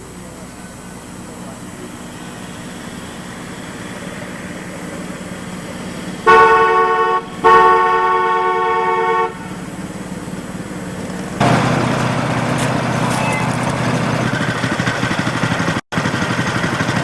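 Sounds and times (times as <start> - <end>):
miniature locomotive whistle: 0.0 - 15.6.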